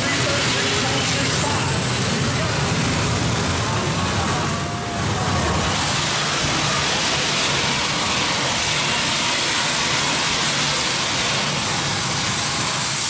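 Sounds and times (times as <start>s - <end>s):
gas turbine engine hissing: 0.0s - 13.0s.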